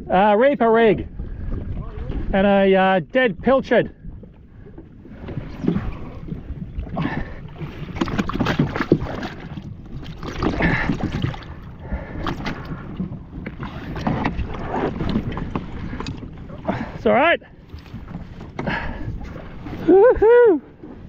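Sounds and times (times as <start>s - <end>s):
water splashing against hull: 0.0s - 21.0s
wind on microphone: 0.8s - 21.0s.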